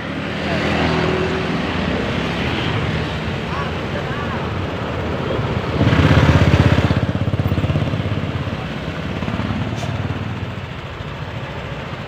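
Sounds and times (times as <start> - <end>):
engine with pulsing exhaust: 0.0 - 12.0.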